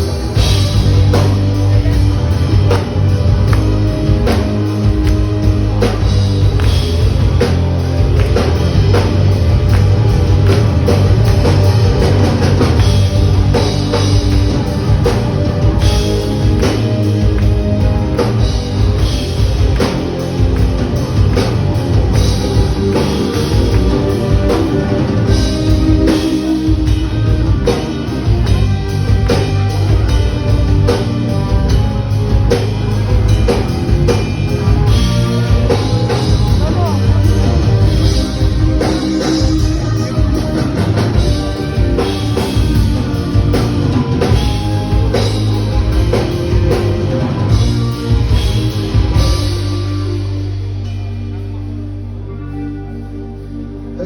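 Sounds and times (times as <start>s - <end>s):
drum kit steady beat: 0.0s - 52.4s
rock band playing: 0.0s - 54.0s.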